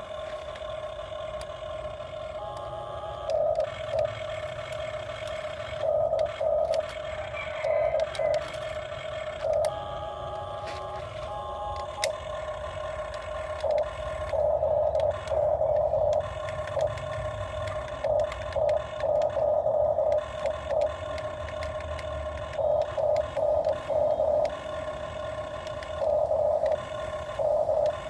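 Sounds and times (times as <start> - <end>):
excavator engine rumble: 0.0 - 28.0
excavator hydraulic whine: 0.0 - 28.0.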